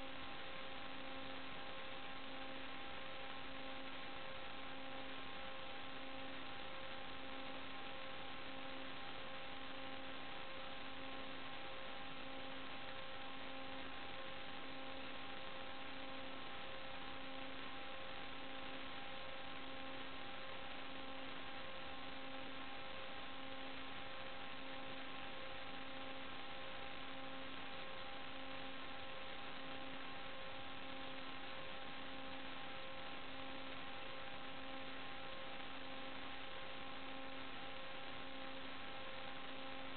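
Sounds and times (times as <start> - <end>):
faint steady tones: 0.0 - 39.9.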